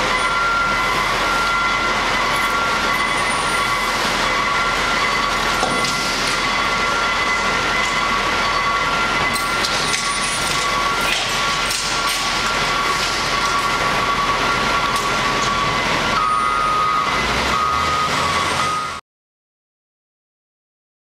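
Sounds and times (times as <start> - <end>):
garbage truck engine and hydraulics: 0.0 - 19.0
high whine: 0.0 - 19.0.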